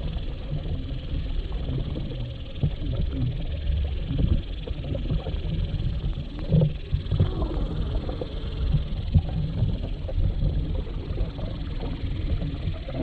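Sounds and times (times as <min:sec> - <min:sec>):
underwater rumble of water movement: 0:00.0 - 0:13.0.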